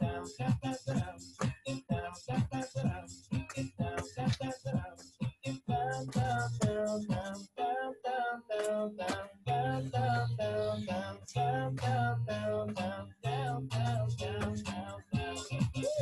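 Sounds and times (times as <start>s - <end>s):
song with sung vocal over beat: 0.0s - 16.0s.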